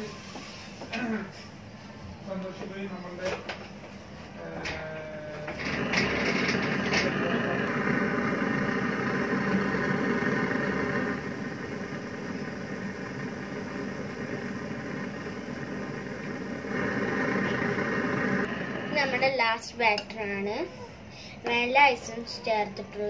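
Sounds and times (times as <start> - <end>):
mechanical motor hum: 0.8 - 20.6.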